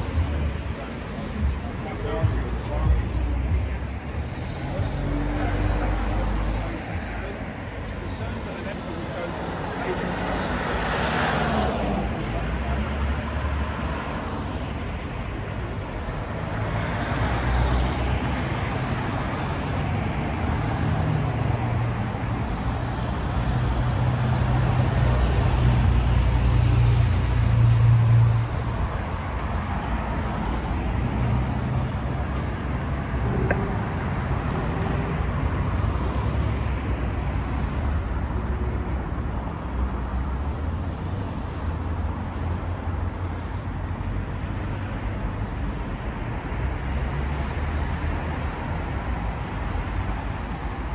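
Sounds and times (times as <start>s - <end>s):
road traffic noise: 0.0s - 50.9s
vehicle engine hum: 0.0s - 50.9s.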